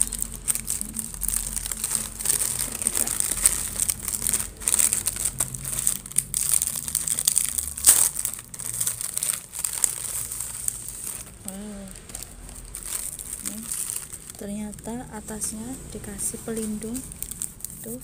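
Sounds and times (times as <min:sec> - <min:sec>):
foil bag crinkling: 0:00.0 - 0:18.0.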